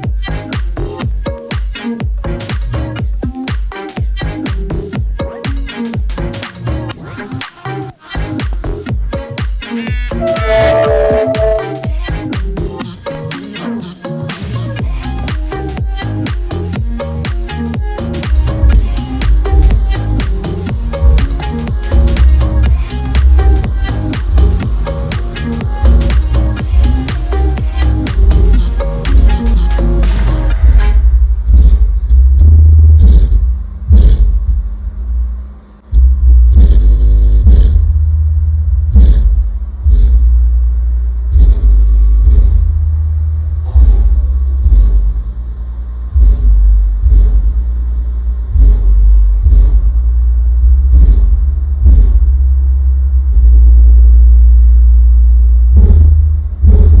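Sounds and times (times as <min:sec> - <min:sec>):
bass-heavy music from subwoofer: 0:00.0 - 0:57.0.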